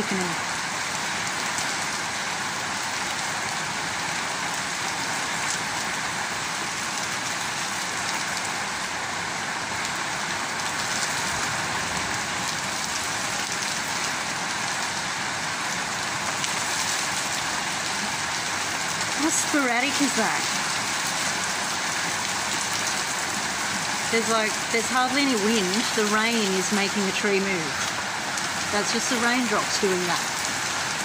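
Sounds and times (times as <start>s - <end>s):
heavy rain on a patio: 0.0s - 31.0s.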